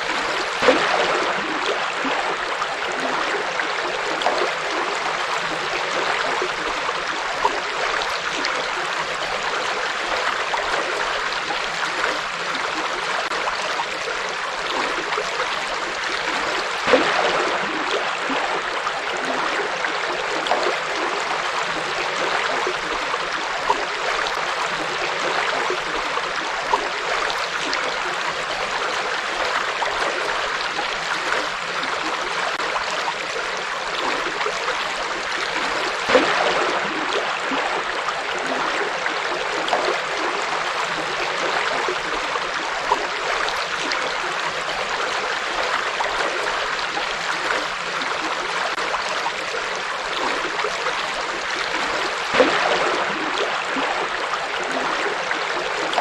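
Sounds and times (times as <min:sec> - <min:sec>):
water splashes: 0:00.0 - 0:56.0.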